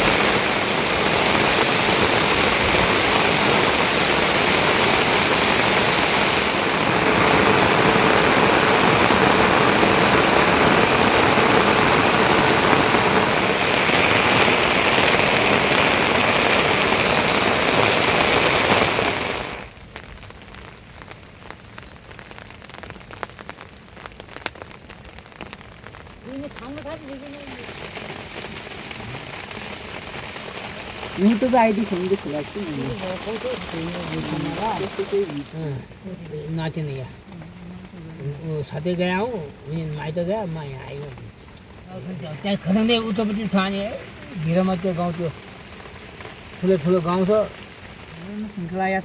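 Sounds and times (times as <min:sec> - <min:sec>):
heavy rain pouring: 0:00.0 - 0:49.0
light rain with drips: 0:00.0 - 0:49.0.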